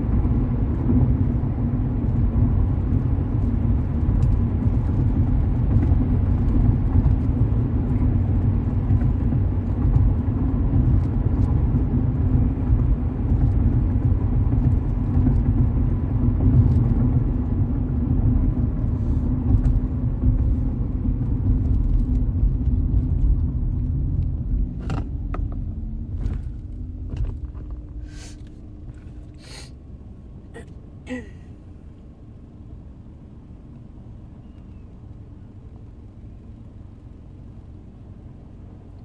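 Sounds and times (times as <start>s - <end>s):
car road noise and engine rumble: 0.0s - 39.0s.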